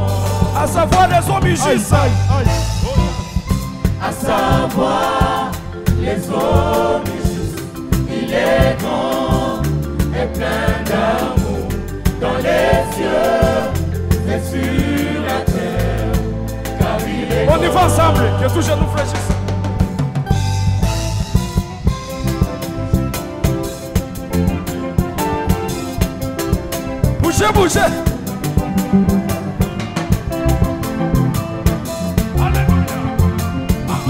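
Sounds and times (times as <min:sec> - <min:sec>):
gospel choir singing: 0:00.0 - 0:34.0
live band with bass and drums: 0:00.0 - 0:34.0.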